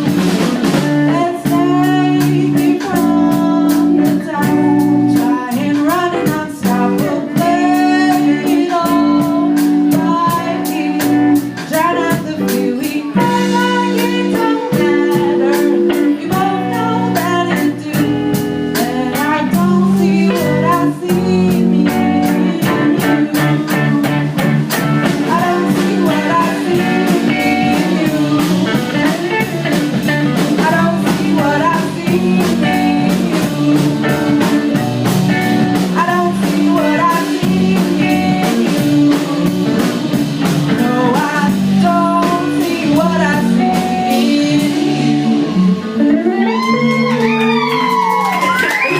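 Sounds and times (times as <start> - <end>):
electric guitar lead line: 0.0 - 48.9
live blues band playing: 0.0 - 48.9.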